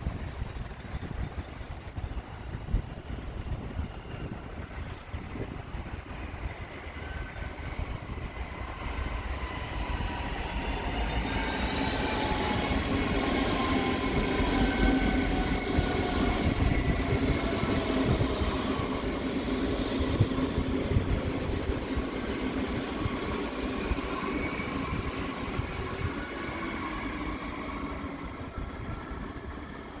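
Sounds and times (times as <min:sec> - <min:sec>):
train passing: 0:00.0 - 0:30.0.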